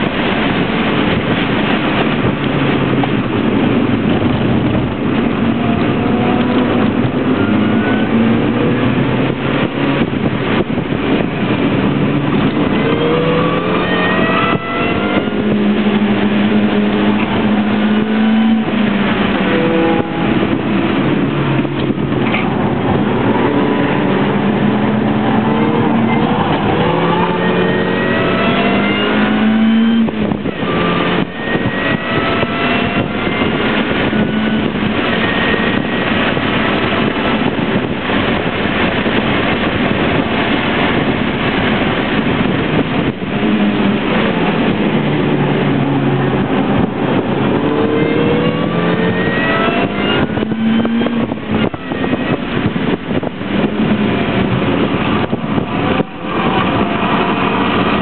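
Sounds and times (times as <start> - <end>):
car engine revving hard: 0.0 - 58.0
road noise: 0.0 - 58.0.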